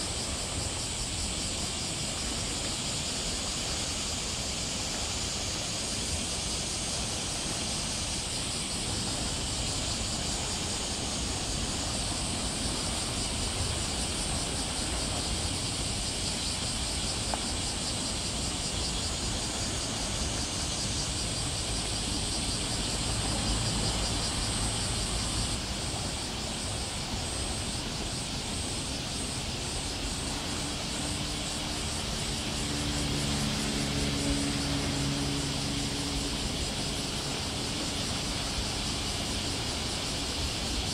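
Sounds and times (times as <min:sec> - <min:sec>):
high-pitched hiss: 0:00.0 - 0:40.9.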